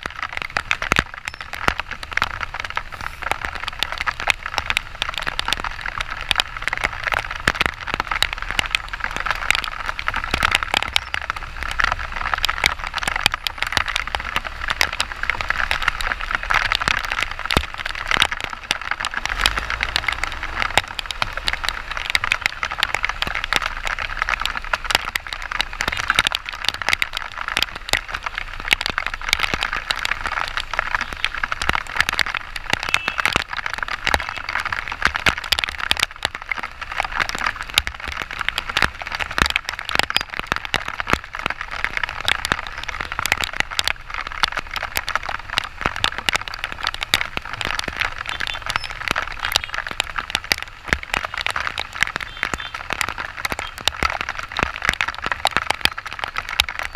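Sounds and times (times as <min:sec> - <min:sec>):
rain drops hitting camera: 0:00.0 - 0:56.9
rain hiss: 0:00.0 - 0:56.9.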